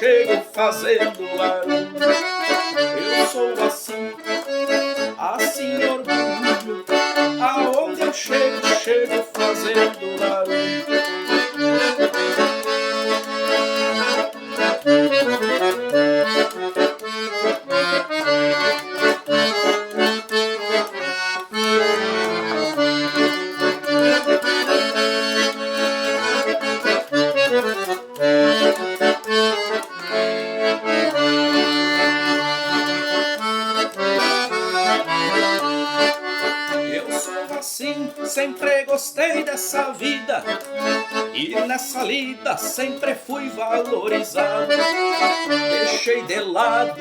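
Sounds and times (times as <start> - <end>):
accordion: 0.0 - 47.0.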